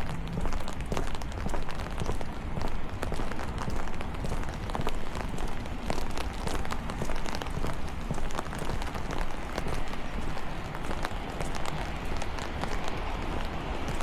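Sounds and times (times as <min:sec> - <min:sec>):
raindrops ticking: 0:00.0 - 0:14.0
steady low rumble: 0:00.0 - 0:14.0.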